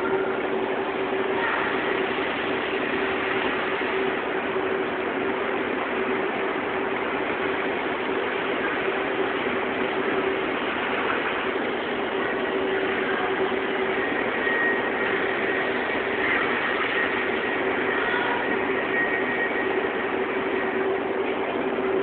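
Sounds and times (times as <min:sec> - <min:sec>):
fabric spreading machine droning: 0:00.0 - 0:22.0
faint high machine whine: 0:00.0 - 0:22.0.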